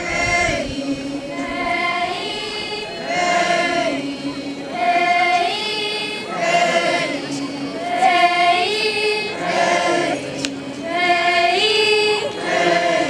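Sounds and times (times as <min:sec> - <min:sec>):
young voices chanting in unison: 0:00.0 - 0:13.0.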